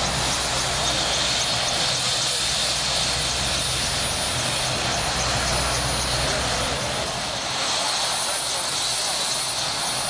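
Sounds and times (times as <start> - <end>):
vehicle engines droning: 0.0 - 10.0.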